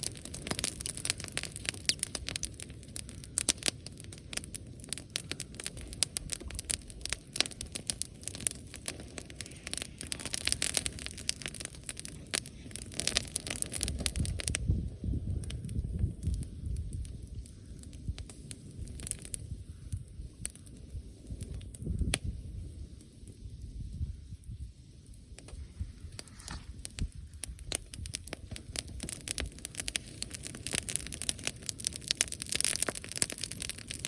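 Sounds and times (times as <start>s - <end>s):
bonfire crackling: 0.0s - 34.0s.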